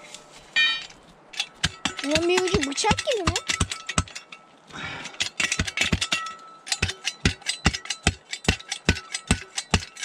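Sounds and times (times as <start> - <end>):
hand tool chipping hard ground: 0.0 - 4.2, 5.0 - 10.0.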